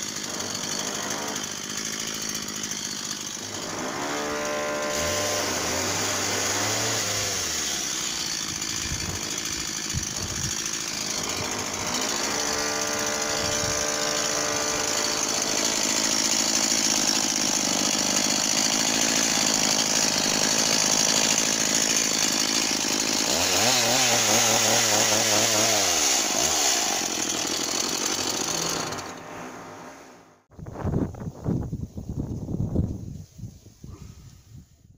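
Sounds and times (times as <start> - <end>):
chainsaw revving and idling: 0.0 - 29.8.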